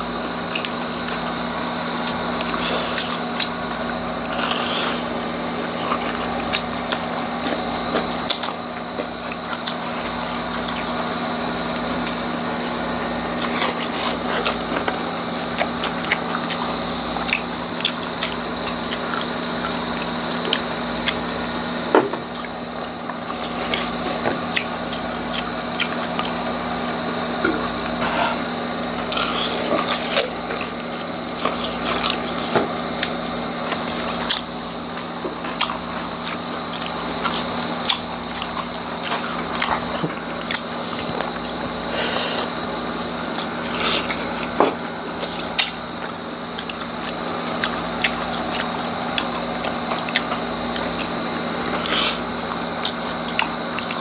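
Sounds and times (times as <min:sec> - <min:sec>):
crunching and chewing: 0:00.0 - 0:54.0.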